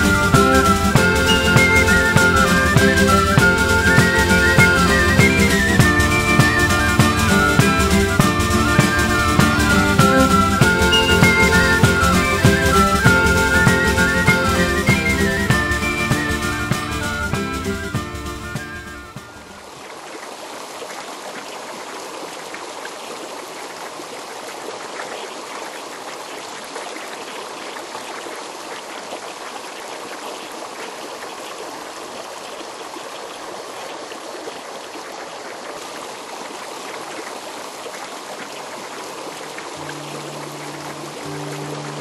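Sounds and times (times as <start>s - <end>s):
stream flowing over stones: 0.0s - 42.0s.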